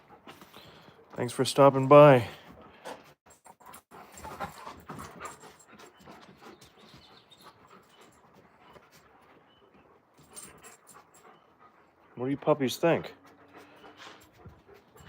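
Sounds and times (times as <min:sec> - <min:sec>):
dog panting: 0:00.0 - 0:01.5, 0:02.2 - 0:15.0.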